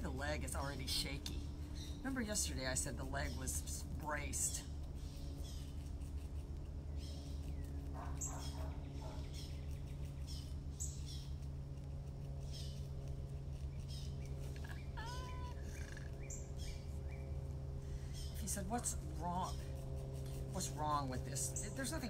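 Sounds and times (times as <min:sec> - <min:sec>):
steady low hum: 0:00.0 - 0:22.0
small birds chirping: 0:00.2 - 0:22.0.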